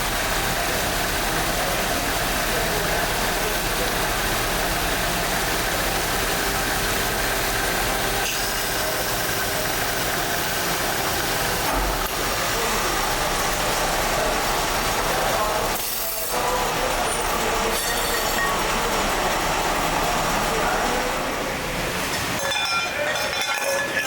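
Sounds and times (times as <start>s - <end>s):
workshop machinery noise: 0.0s - 24.0s.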